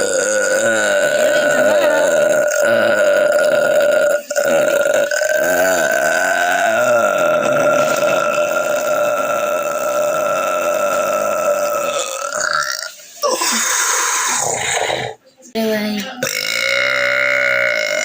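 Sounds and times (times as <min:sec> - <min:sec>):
woman belching: 0:00.0 - 0:15.2, 0:16.2 - 0:18.0.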